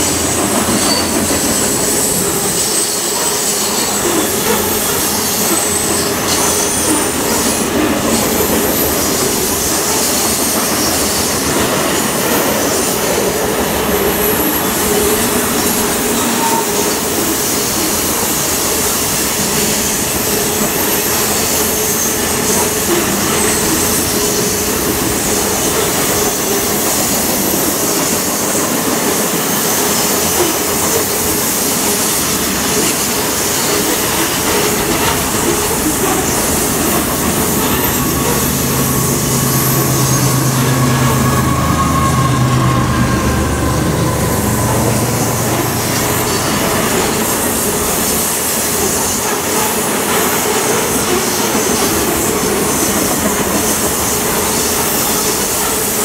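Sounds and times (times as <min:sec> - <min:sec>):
high wheel squeal: 0:00.0 - 0:56.0
train wheels rumbling on rails: 0:00.0 - 0:56.0.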